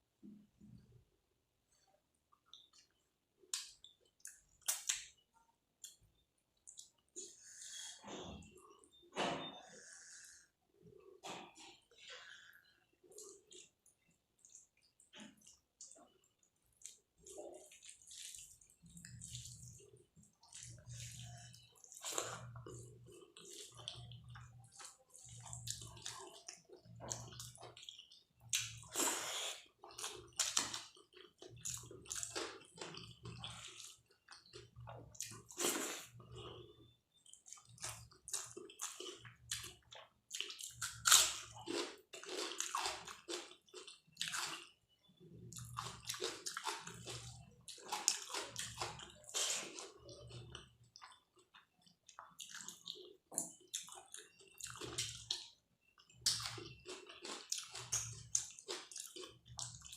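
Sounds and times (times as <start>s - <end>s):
wet chewing: 11.9s - 59.9s.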